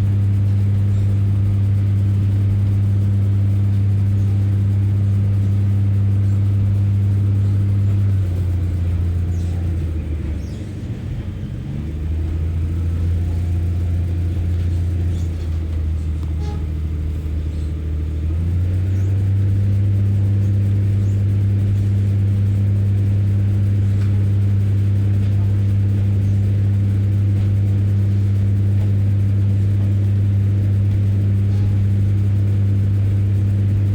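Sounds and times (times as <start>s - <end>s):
diesel railbus engine drone: 0.0s - 33.9s.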